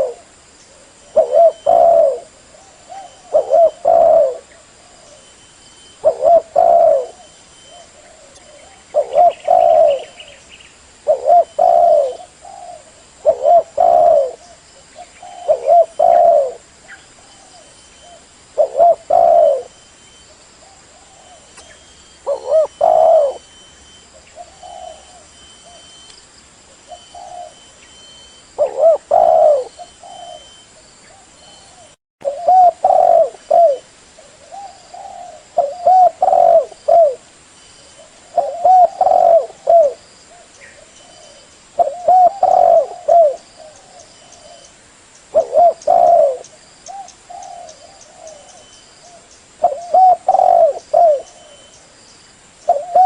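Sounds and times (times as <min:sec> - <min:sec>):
dove cooing: 0:00.0 - 0:10.4, 0:11.0 - 0:19.8, 0:20.6 - 0:26.0, 0:26.7 - 0:44.7, 0:45.3 - 0:51.9, 0:52.6 - 0:53.0.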